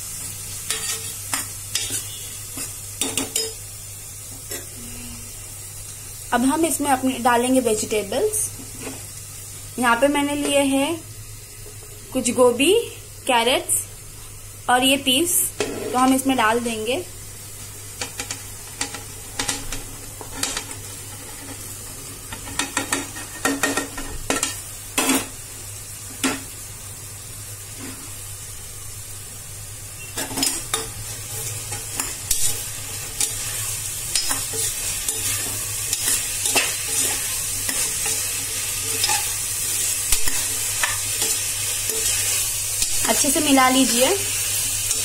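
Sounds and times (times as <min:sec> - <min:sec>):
frying sizzle: 0:00.0 - 0:45.0.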